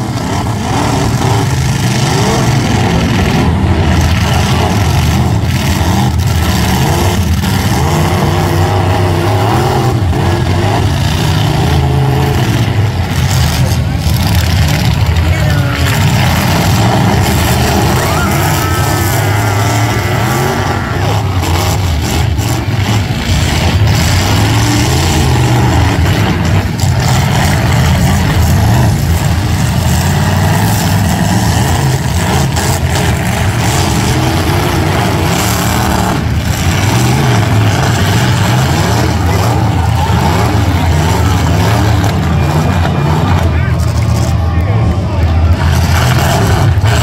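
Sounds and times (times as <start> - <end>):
truck engines revving: 0.0 - 47.0.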